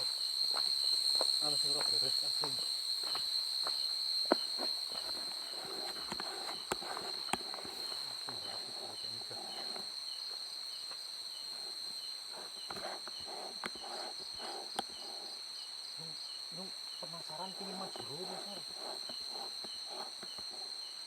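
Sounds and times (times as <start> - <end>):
crickets trilling: 0.0 - 21.0
soft insect chirp: 0.0 - 21.0.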